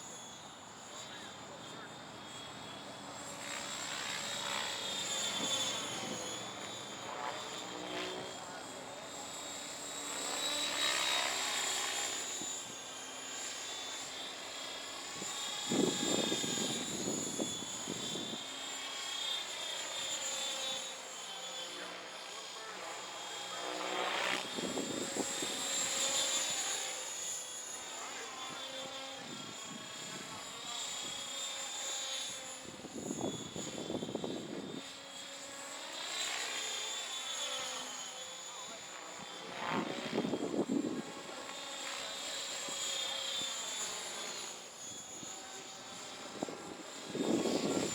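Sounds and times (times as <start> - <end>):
rc helicopter motor whine: 0.0 - 47.9.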